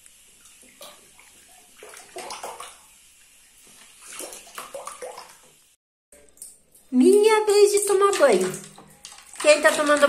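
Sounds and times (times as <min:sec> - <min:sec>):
bath water splashing: 0:00.3 - 0:10.0.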